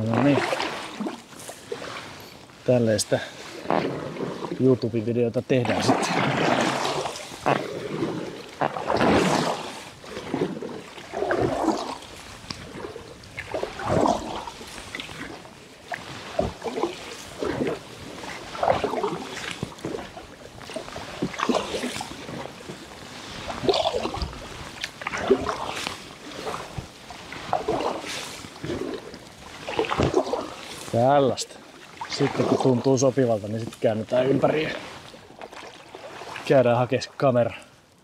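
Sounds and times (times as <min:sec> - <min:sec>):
paddle strokes splashing water: 0:00.0 - 0:37.7.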